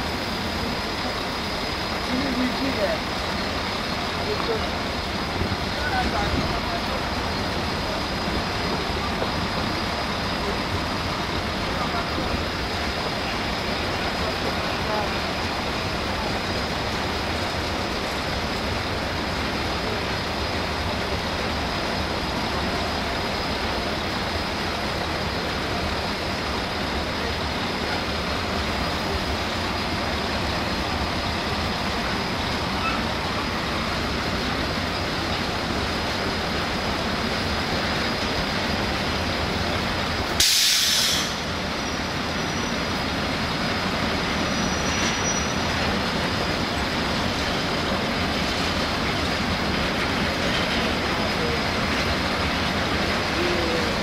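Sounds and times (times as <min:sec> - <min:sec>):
loud hiss: 0:00.0 - 0:54.0
train wheels on rails: 0:00.0 - 0:54.0.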